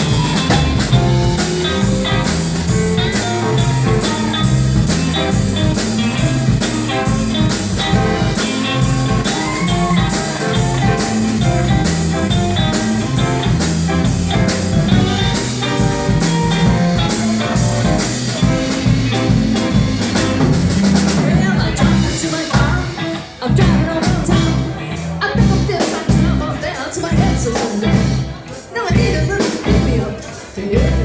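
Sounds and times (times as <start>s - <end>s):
bass line: 0.0s - 31.0s
drum kit cymbal beat: 0.0s - 31.0s
guitar: 0.0s - 31.0s.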